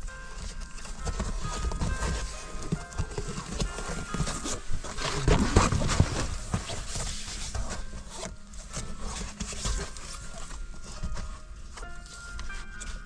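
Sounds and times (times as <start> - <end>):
foil sunshade crinkling and rustling: 0.0 - 13.0.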